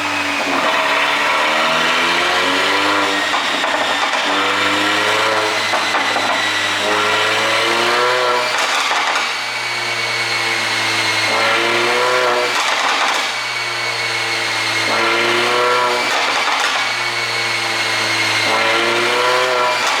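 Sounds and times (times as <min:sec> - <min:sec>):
car engine revving: 0:00.0 - 0:09.4, 0:10.5 - 0:12.9, 0:13.9 - 0:20.0.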